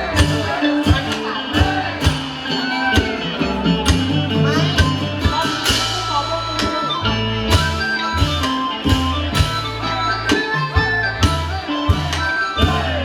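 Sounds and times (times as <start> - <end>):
drum strokes: 0.0 - 13.0
folk ensemble playing: 0.0 - 13.0
low bass notes: 0.0 - 13.0
melody notes: 0.0 - 13.0.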